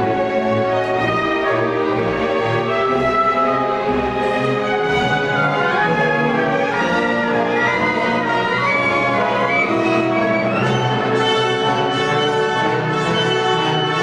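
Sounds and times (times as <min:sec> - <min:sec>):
symphony orchestra playing: 0:00.0 - 0:14.0.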